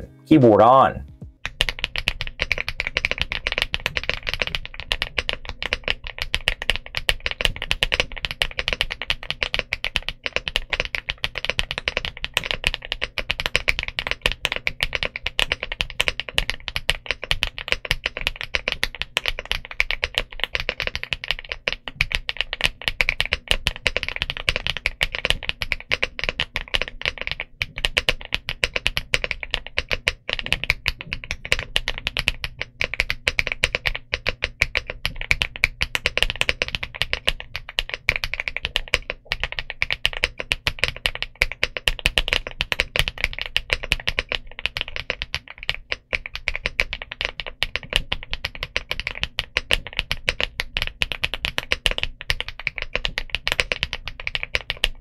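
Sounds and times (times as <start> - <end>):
fast typing on mechanical keyboard: 1.4 - 55.0.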